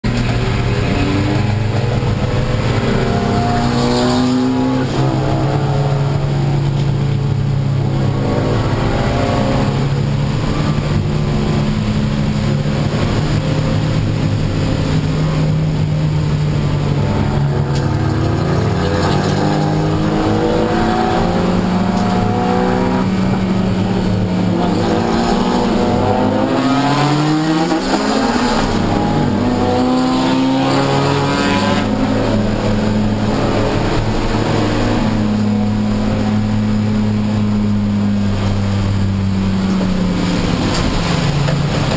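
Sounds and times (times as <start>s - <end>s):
race car engine accelerating: 0.0s - 41.9s
tyre noise on wet road: 0.0s - 41.9s.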